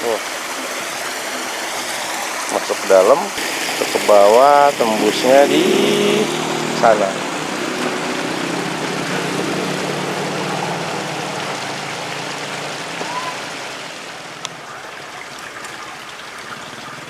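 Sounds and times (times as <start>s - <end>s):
water rushing through channel: 0.0s - 17.0s.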